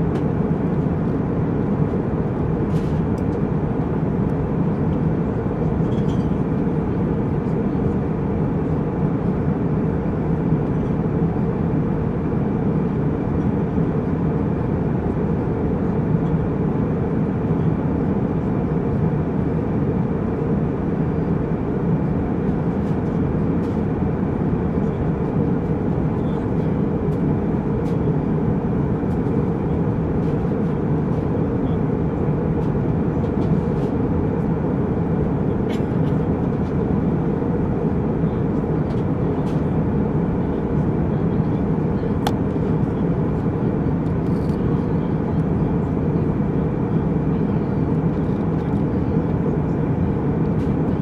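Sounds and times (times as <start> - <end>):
airplane cabin engine rush: 0.0 - 51.0.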